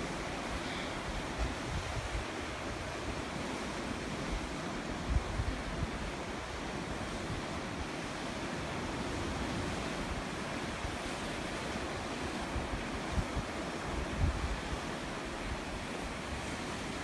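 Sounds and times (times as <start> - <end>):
sea surf washing on shore: 0.0 - 17.0
wind rumble on microphone: 0.0 - 17.0.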